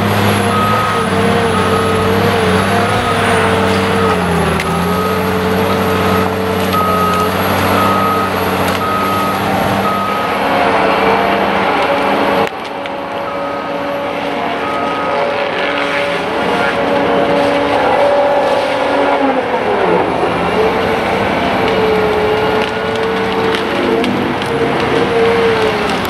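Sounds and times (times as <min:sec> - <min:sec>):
diesel engine and hydraulics running: 0:00.0 - 0:26.0.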